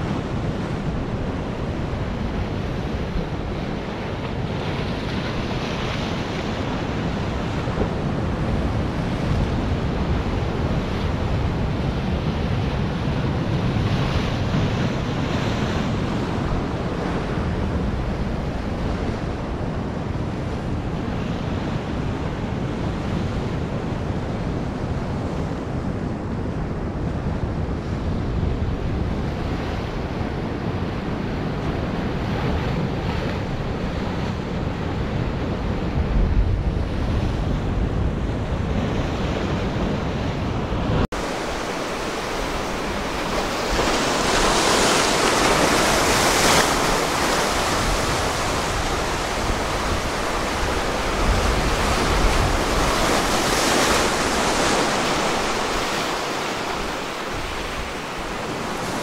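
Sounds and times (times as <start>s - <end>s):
ocean surf breaking on beach: 0.0s - 59.0s
wind rumbling on microphone: 0.0s - 59.0s.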